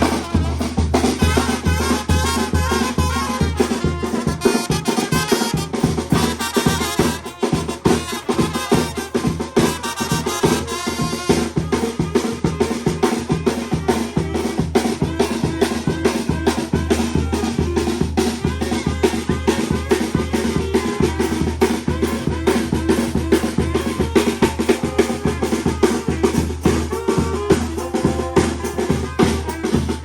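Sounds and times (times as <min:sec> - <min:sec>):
bass drum and snare beat: 0:00.0 - 0:30.0
drum-heavy dance music: 0:00.0 - 0:30.0.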